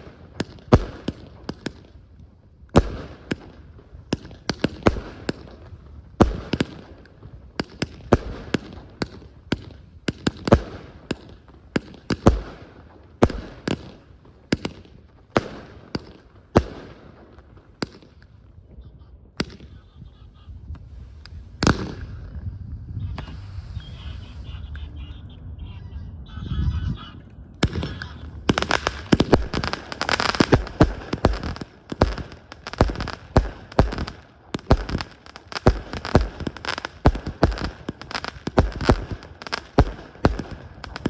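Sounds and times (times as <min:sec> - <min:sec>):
fireworks bangs: 0:00.0 - 0:25.2, 0:27.4 - 0:41.0.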